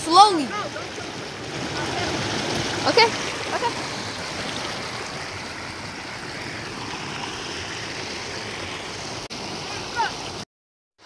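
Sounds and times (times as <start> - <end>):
creek rushing over rocks: 0.0 - 10.4.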